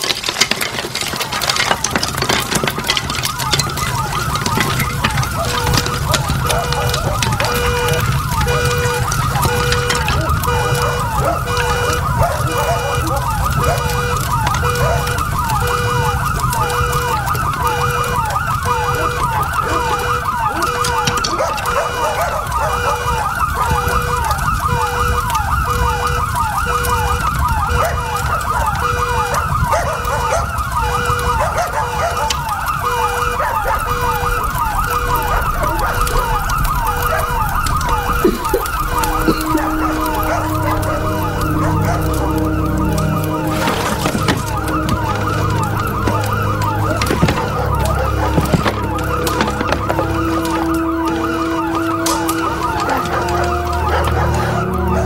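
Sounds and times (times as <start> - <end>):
pulsing siren: 0.0 - 55.0
yelping siren: 0.0 - 55.0.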